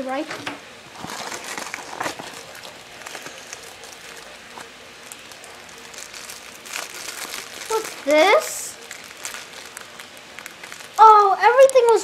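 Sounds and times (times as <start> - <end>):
plastic packaging crackling: 0.9 - 12.0.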